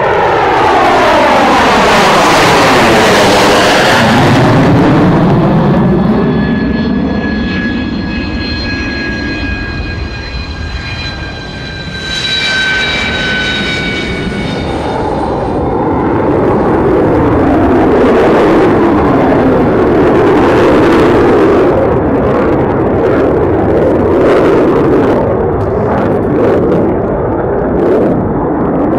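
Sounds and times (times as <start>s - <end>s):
jet engine whine: 0.0s - 28.9s
jet roar: 0.0s - 28.9s.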